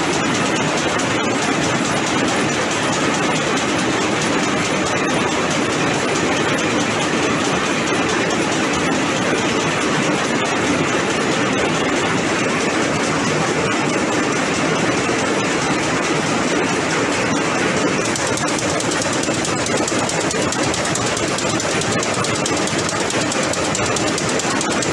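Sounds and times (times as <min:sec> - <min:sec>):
loom mechanical clatter: 0:00.0 - 0:24.9.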